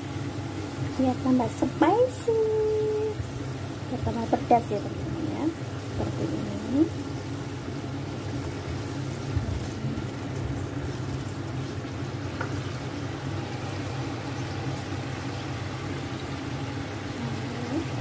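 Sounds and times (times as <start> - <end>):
sauce boiling in a frying pan: 0.0 - 18.0.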